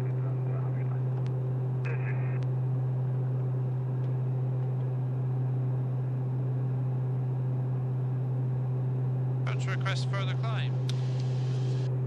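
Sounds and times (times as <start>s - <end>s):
turboprop propeller hum: 0.0s - 12.0s.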